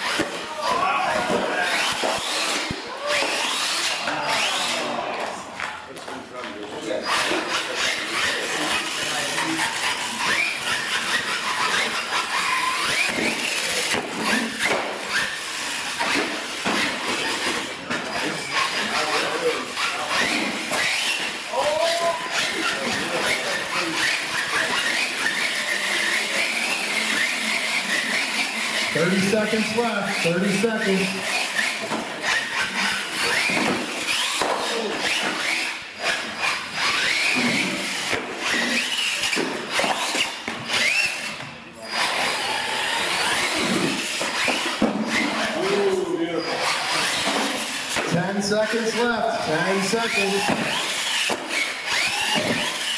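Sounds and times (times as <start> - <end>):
toy truck electric motor whining: 0.0 - 5.1, 6.8 - 52.9
tyres scrabbling on concrete: 5.2 - 52.9.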